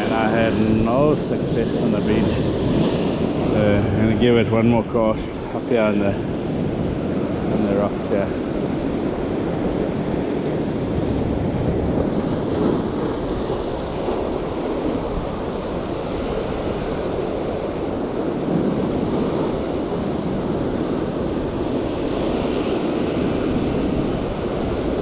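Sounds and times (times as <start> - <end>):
surf breaking on rocks: 0.0 - 25.0
wind buffeting microphone: 0.0 - 25.0.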